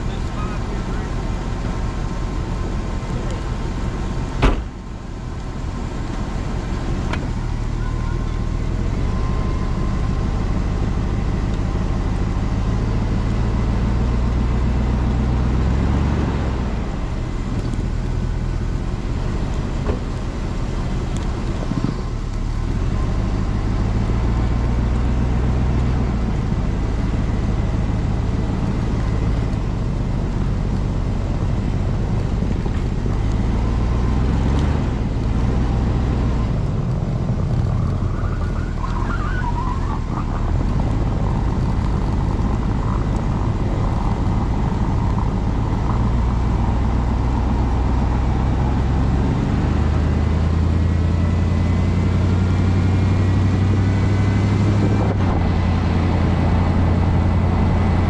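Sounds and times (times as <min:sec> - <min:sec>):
tires churning through snow: 0:00.0 - 0:58.0
vehicle engine running: 0:00.0 - 0:58.0.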